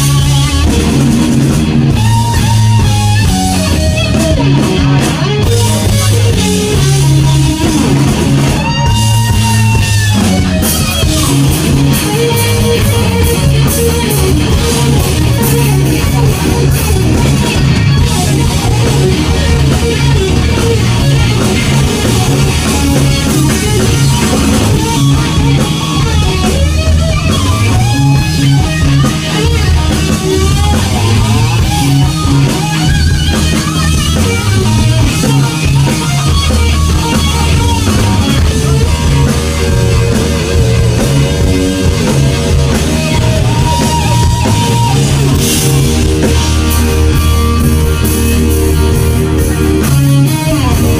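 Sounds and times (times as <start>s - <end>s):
bass guitar: 0.0s - 50.9s
drum kit: 0.0s - 50.9s
electric guitar: 0.0s - 50.9s.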